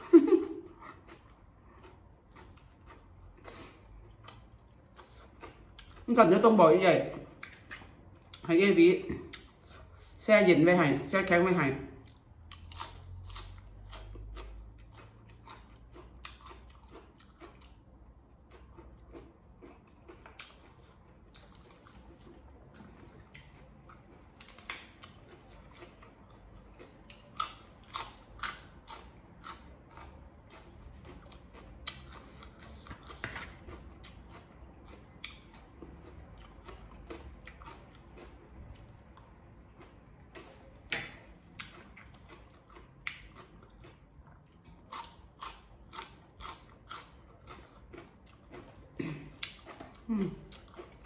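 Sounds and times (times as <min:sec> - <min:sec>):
person chewing crunchy salad: 0:00.0 - 0:06.2, 0:07.0 - 0:08.5, 0:09.1 - 0:10.2, 0:12.0 - 0:51.0.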